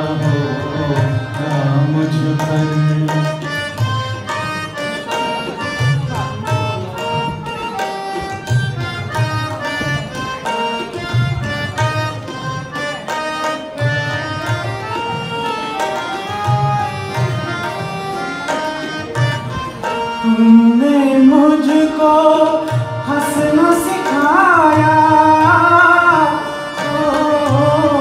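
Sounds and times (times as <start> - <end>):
harmonium melody: 0.0 - 28.0
tabla rhythm: 0.0 - 28.0.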